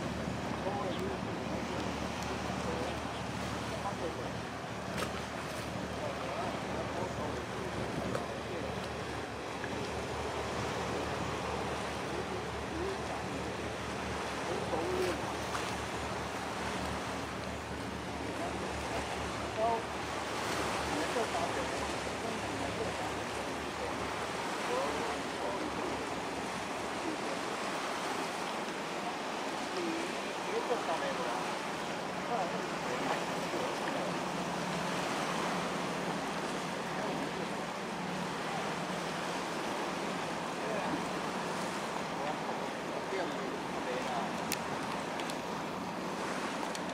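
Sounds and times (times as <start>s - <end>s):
water washing along ship hull: 0.0s - 46.9s
wind: 0.0s - 46.9s.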